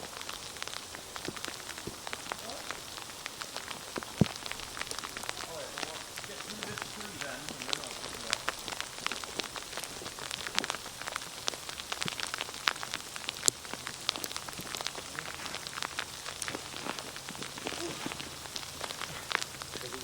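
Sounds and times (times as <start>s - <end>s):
ice pellets ticking: 0.0s - 20.0s
steady hiss: 0.0s - 20.0s.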